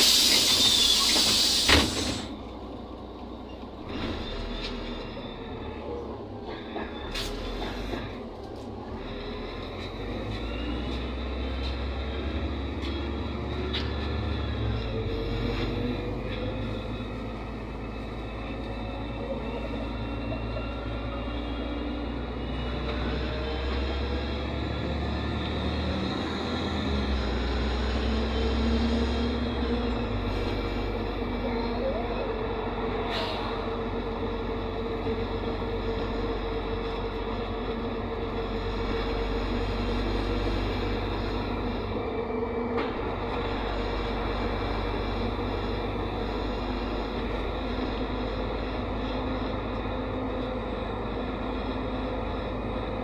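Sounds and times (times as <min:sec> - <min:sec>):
bus diesel engine running: 0:00.0 - 0:53.0
road noise: 0:00.0 - 0:53.0.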